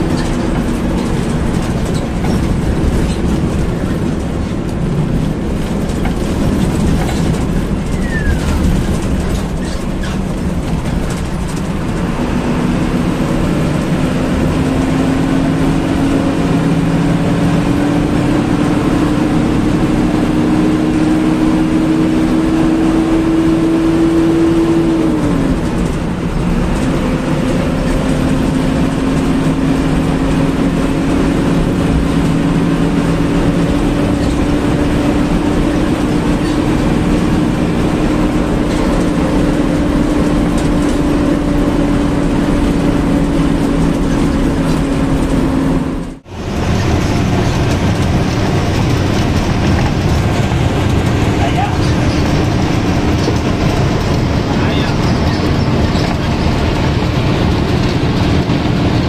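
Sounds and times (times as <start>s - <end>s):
bus engine: 0.0s - 59.0s
road noise: 0.0s - 59.0s.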